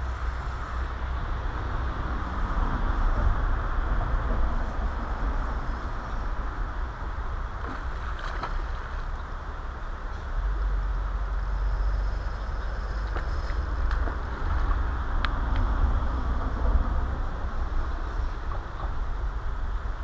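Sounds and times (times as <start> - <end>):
steady rushing noise: 0.0 - 20.0
wind rumbling on microphone: 0.0 - 20.0.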